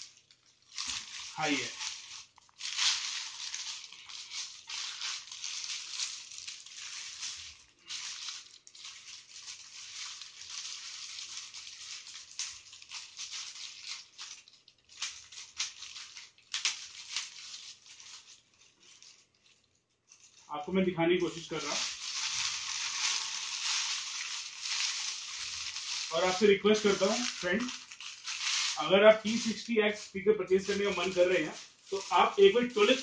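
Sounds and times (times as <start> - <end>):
plastic bag crinkling: 0.0 - 33.0.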